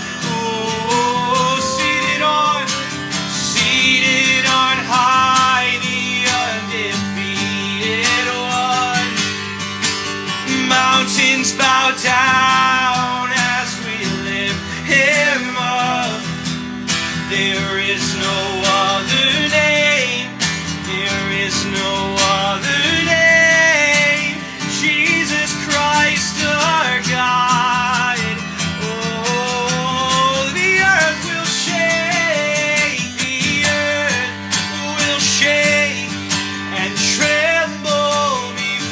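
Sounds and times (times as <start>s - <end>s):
men singing worship song: 0.0s - 9.3s, 10.4s - 16.4s, 17.2s - 38.9s
acoustic guitar strumming: 0.0s - 38.9s.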